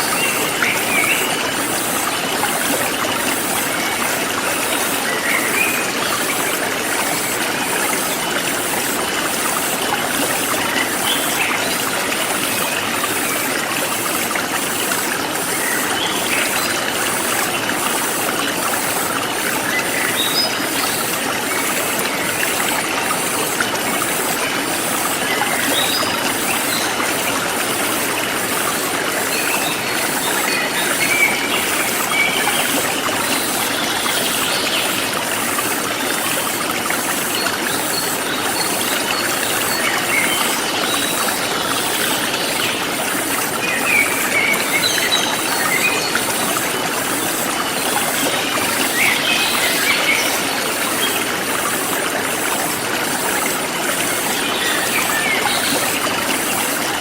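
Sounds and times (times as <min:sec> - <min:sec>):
forest stream flowing: 0:00.0 - 0:57.0.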